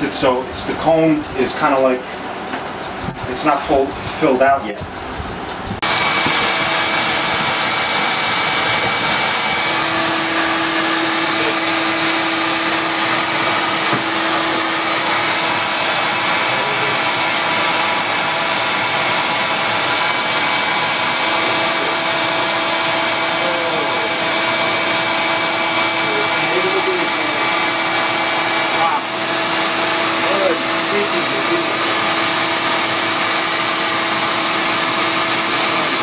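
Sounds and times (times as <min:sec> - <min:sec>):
vacuum running: 0:00.0 - 0:36.0.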